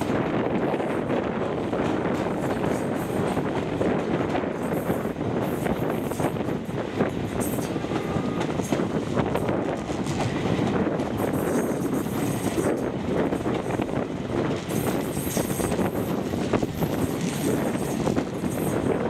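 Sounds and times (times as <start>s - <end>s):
train wheels rumbling on rails: 0.0s - 19.0s
wind on microphone: 0.0s - 19.0s.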